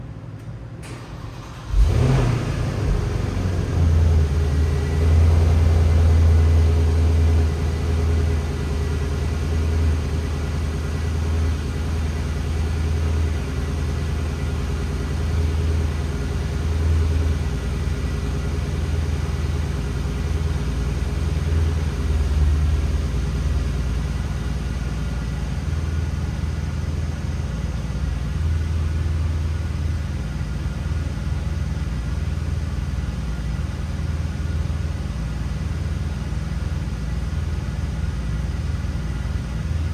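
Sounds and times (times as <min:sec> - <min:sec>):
car engine starting and idling: 0:00.4 - 0:39.9.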